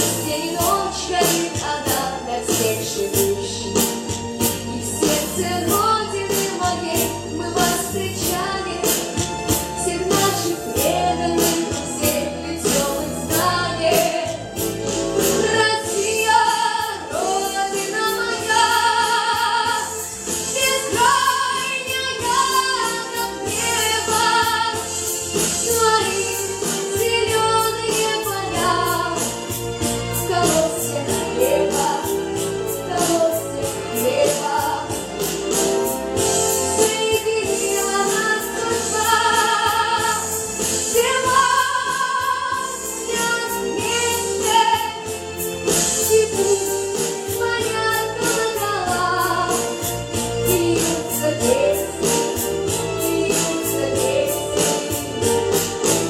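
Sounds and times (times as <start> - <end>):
backing track: 0.0 - 56.0
woman singing pop song: 0.0 - 56.0.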